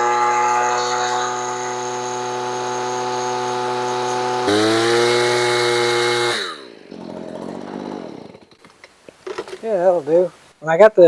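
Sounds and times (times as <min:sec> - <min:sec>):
leaf blower engine revving: 0:00.0 - 0:10.6.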